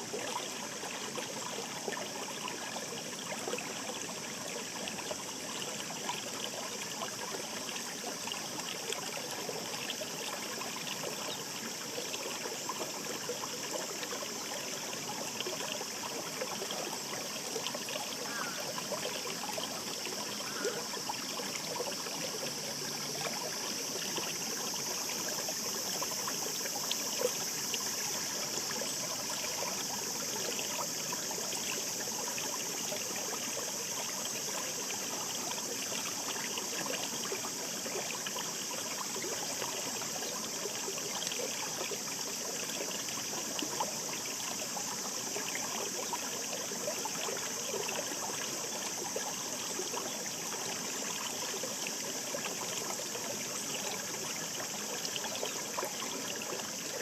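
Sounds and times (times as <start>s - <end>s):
mountain stream babbling: 0.0s - 57.0s.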